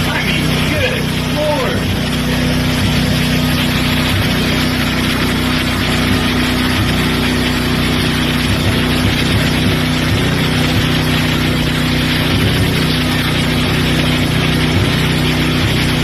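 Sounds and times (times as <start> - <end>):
engine drone: 0.0 - 16.0.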